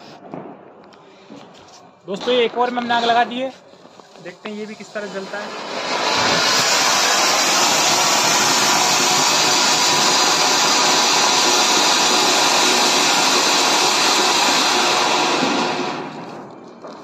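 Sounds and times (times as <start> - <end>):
firework fountain hissing: 0.0 - 0.3, 1.3 - 17.0.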